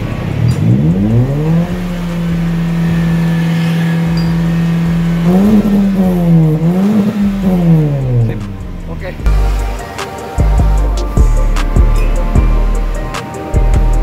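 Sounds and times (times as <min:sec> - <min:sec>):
engine revving through racing exhaust: 0:00.0 - 0:14.0.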